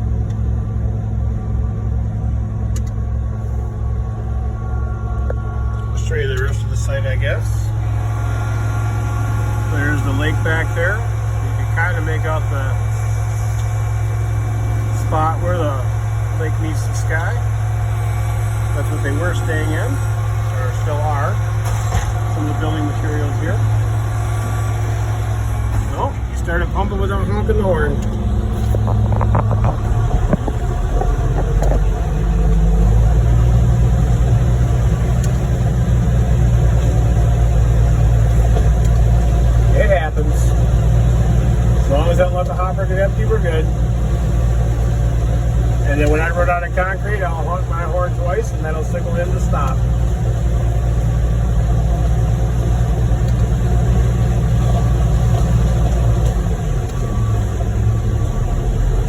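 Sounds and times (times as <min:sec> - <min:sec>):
heavy diesel truck engines running: 0:00.0 - 0:59.0.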